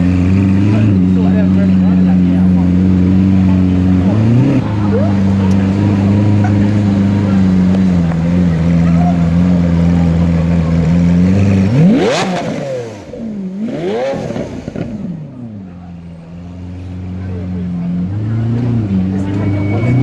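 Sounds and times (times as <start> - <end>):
sports car engine idling and revving: 0.0 - 20.0.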